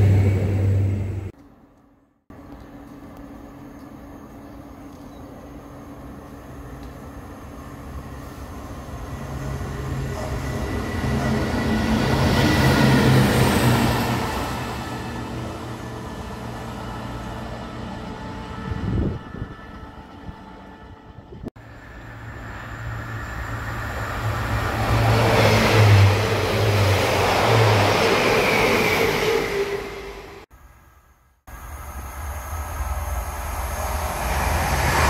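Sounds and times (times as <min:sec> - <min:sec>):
train engine drone: 0:00.0 - 0:35.0.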